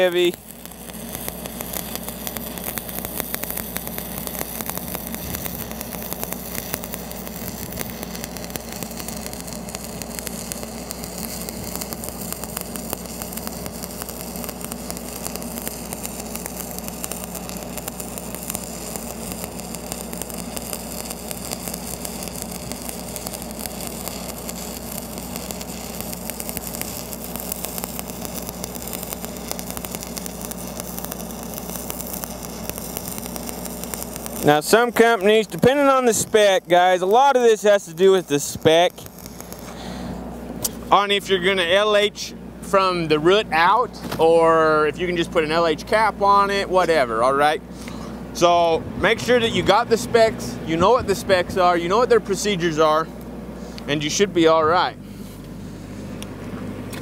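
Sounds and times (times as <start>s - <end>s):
welding arc crackling: 0.0s - 55.6s
steady engine hum: 0.0s - 57.0s.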